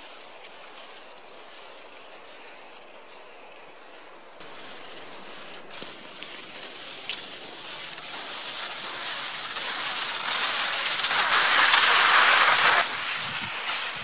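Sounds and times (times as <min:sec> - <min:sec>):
skis swishing over snow: 0:00.0 - 0:14.0.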